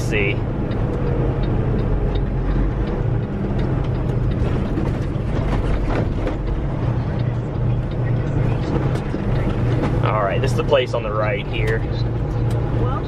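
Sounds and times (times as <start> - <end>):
diesel truck engine running: 0.0 - 13.0
light ticking: 0.0 - 13.0
road noise inside cab: 0.0 - 13.0.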